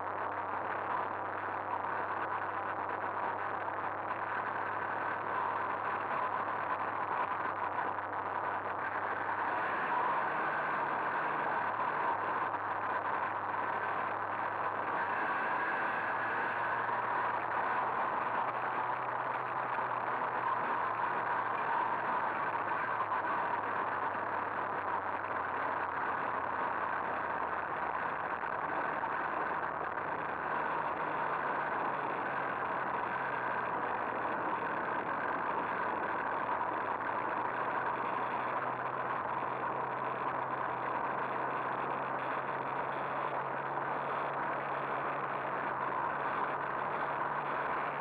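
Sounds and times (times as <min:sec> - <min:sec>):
road noise: 0:00.0 - 0:48.0.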